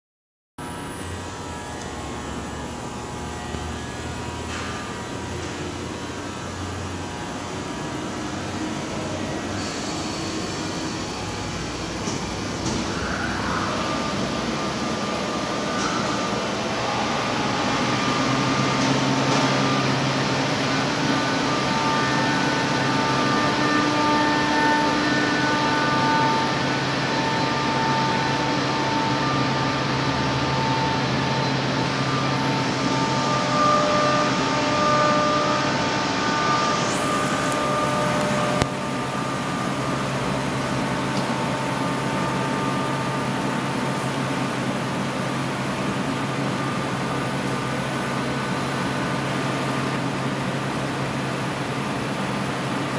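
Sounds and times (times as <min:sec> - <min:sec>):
industrial furnace fan hum: 0:00.6 - 0:52.9
steady whining tones: 0:00.6 - 0:52.9.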